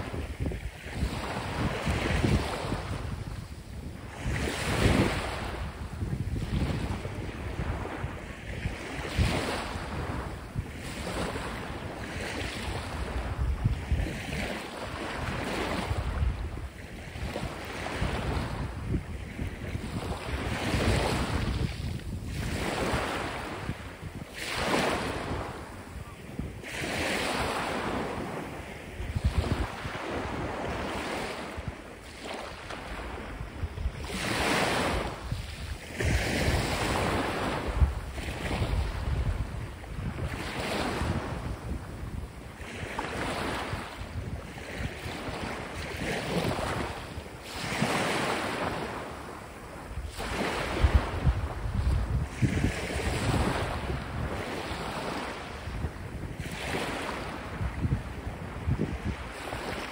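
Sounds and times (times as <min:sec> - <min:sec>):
small waves breaking on shore: 0:00.0 - 0:59.9
wind buffeting microphone: 0:00.0 - 0:59.9.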